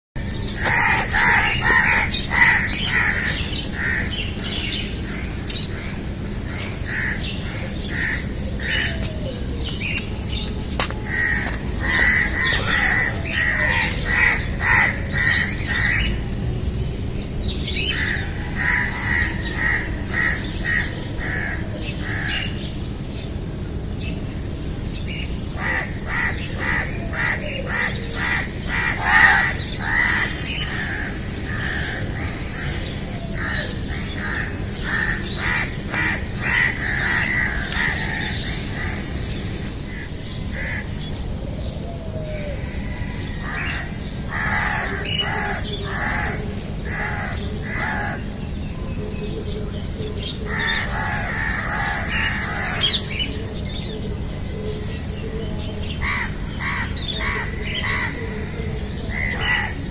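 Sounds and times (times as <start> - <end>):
birds calling: 0.2 - 59.9
steady low hum: 0.2 - 59.9.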